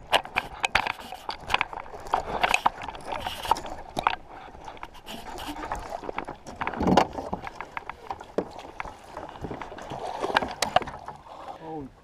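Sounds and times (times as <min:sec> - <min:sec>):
fish splashing: 0:00.0 - 0:11.5.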